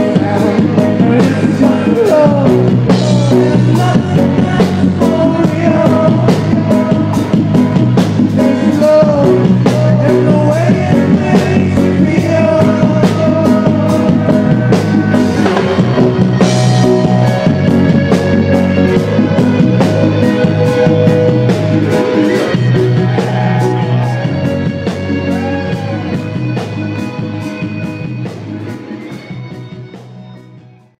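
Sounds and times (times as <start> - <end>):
person singing: 0.0 - 30.0
steady drum beat: 0.0 - 30.4
live reggae band playing: 0.0 - 30.9.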